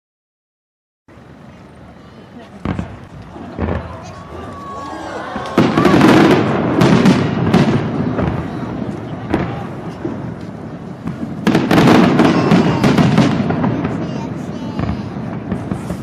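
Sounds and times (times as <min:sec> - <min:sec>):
fireworks bangs and crackles: 0:01.1 - 0:16.0
echoing rumble: 0:02.6 - 0:15.8.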